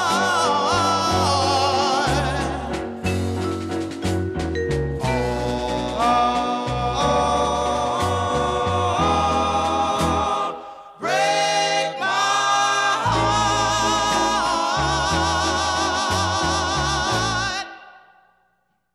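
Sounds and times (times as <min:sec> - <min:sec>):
voices singing in harmony: 0:00.0 - 0:03.4, 0:05.0 - 0:18.2.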